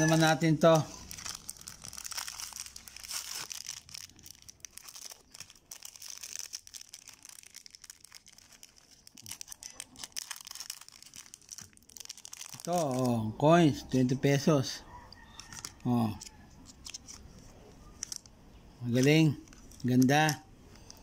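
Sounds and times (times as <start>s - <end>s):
plastic wrapping crinkling: 0.1s - 13.2s, 15.2s - 18.3s, 18.9s - 21.0s.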